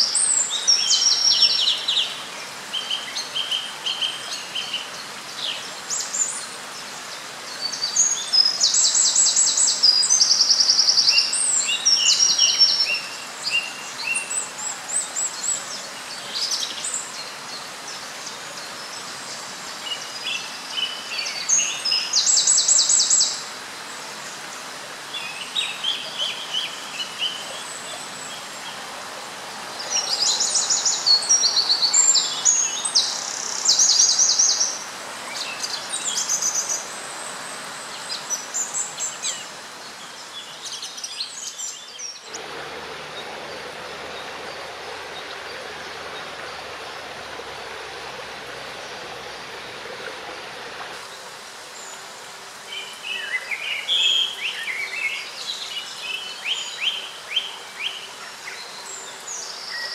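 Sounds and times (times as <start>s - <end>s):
songbirds trilling and chirping: 0.0s - 59.9s
steady background hiss: 0.0s - 59.9s.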